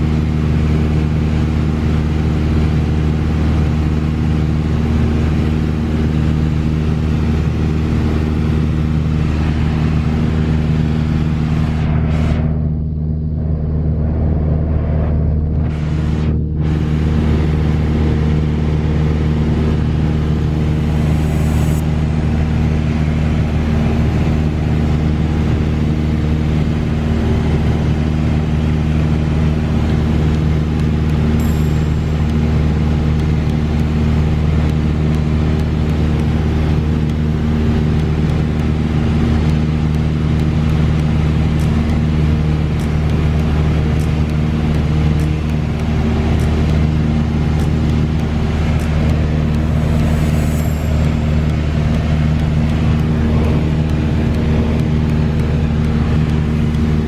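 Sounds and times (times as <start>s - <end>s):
airplane engine droning in cabin: 0.0s - 57.0s.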